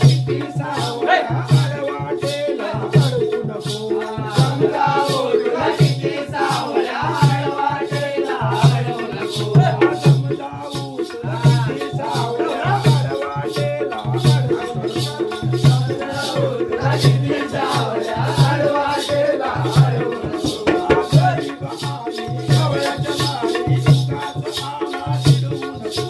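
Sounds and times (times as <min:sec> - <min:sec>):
barrel drum beating: 0:00.0 - 0:26.0
jingling percussion: 0:00.0 - 0:26.0
men singing: 0:00.0 - 0:26.0.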